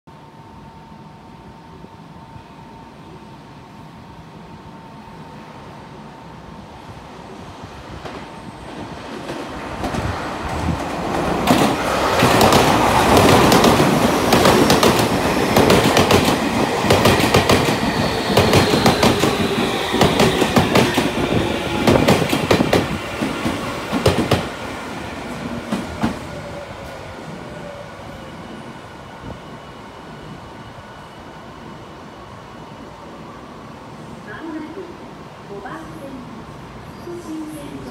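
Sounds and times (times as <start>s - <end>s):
train hum: 0.1s - 37.9s.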